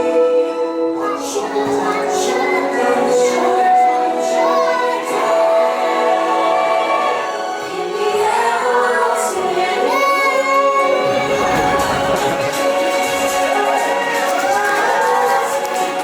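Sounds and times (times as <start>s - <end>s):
children singing in chorus: 0.0s - 16.0s
musical accompaniment: 0.0s - 16.0s.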